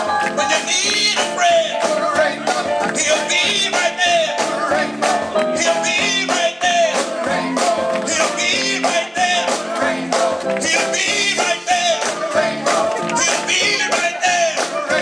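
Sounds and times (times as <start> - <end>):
live gospel band music: 0.0 - 15.0
steady drum beat: 0.0 - 15.0.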